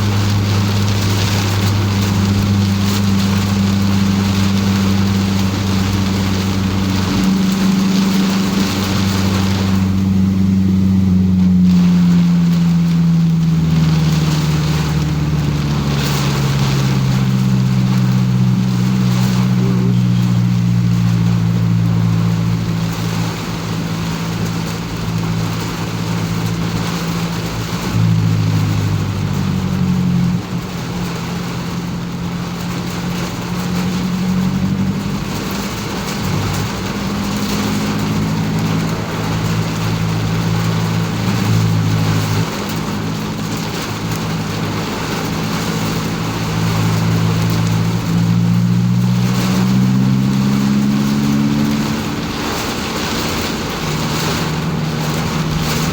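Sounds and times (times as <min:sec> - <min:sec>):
car engine hum: 0:00.0 - 0:55.9
rain and wet road noise: 0:00.0 - 0:55.9.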